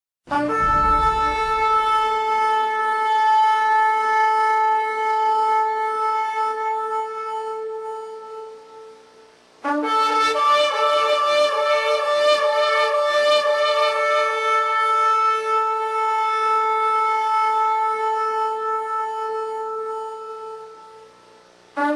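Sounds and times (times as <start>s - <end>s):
trumpet-like horn blast: 0.3s - 21.9s.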